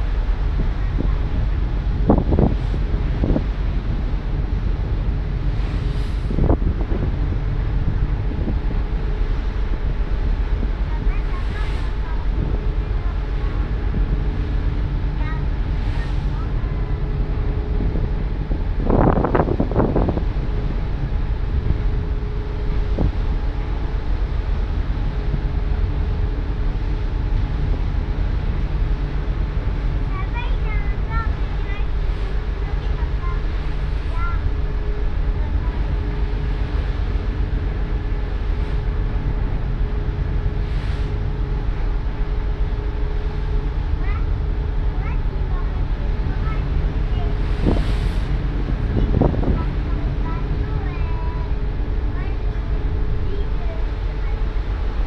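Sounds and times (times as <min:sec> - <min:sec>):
ship engines droning: 0:00.0 - 0:55.0
wind buffeting microphone: 0:00.0 - 0:55.0.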